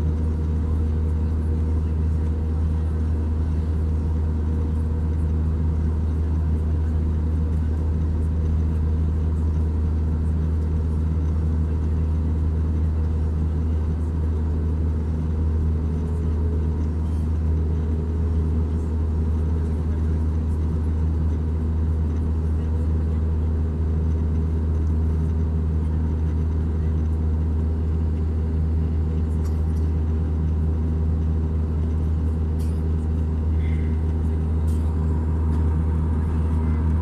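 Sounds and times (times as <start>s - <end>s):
aircraft cabin engine drone: 0.0s - 37.0s
faint steady hums: 0.0s - 37.0s.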